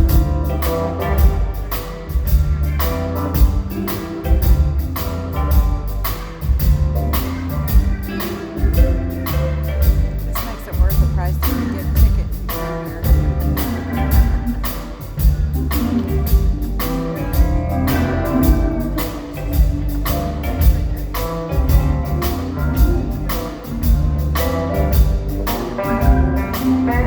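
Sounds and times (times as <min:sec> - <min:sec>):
band music with drum beat: 0:00.0 - 0:27.0.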